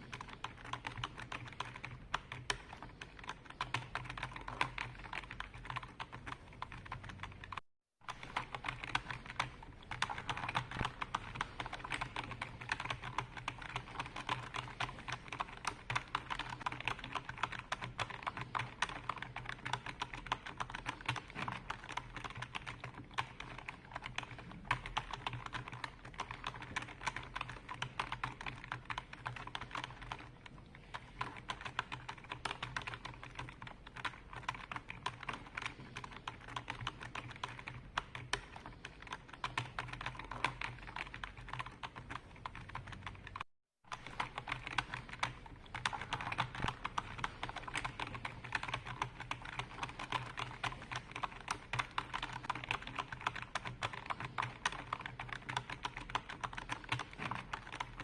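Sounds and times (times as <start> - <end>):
fast typing on keyboard: 0.0 - 58.0.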